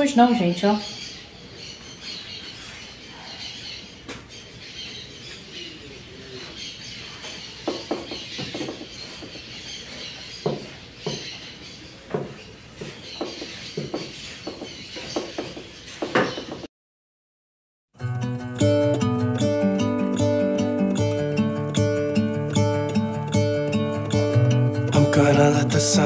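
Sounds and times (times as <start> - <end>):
birds chirping: 0.0 - 16.7, 18.5 - 26.0.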